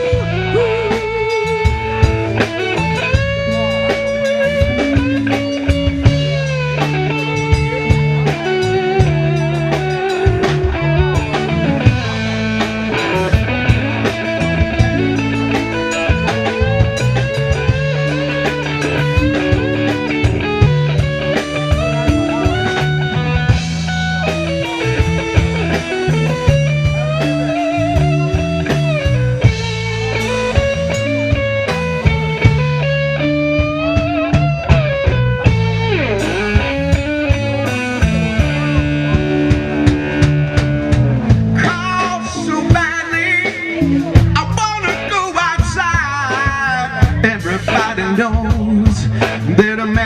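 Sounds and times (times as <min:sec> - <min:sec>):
bass line: 0:00.0 - 0:50.0
drum kit: 0:00.0 - 0:50.0
lead guitar melody: 0:00.0 - 0:50.0.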